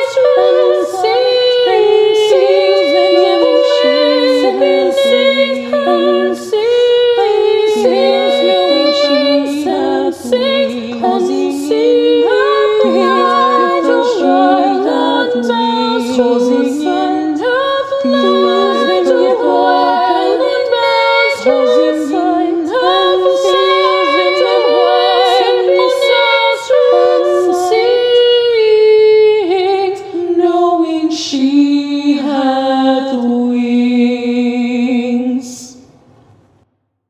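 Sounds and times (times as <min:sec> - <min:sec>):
women singing a cappella harmony: 0:00.0 - 0:36.0.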